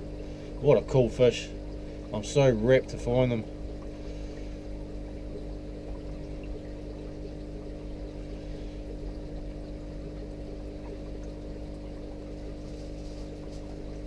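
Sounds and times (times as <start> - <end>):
aquarium pump motor droning: 0.0 - 14.0
water moving in tank: 0.0 - 14.0.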